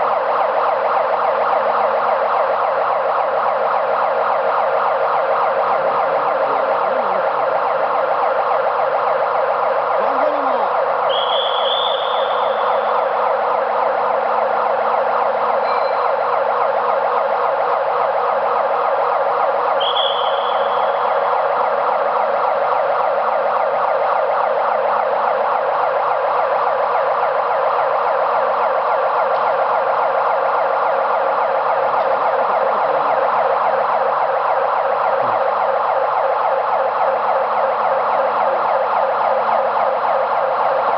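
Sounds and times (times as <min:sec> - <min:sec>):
warbling warning alarm: 0:00.0 - 0:40.9.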